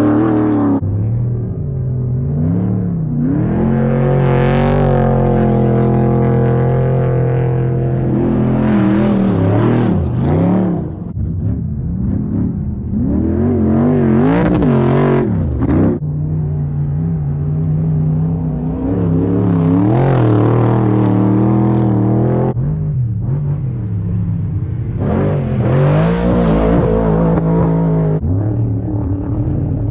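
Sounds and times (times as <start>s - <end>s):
race vehicle engine revving: 0.0s - 29.9s.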